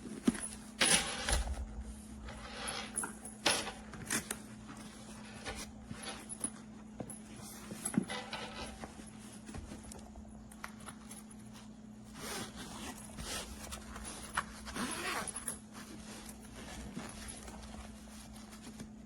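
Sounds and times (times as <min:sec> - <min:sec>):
objects being handled: 0:00.0 - 0:19.0
steady low hum: 0:00.0 - 0:19.0.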